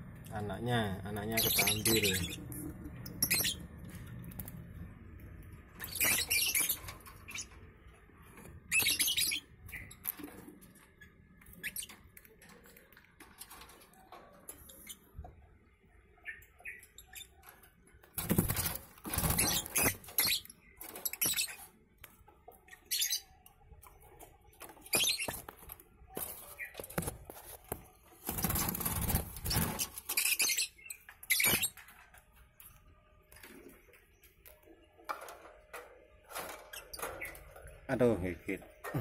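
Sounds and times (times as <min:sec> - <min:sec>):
birds flapping and rustling: 0:01.4 - 0:15.2, 0:17.2 - 0:23.1, 0:23.7 - 0:37.9.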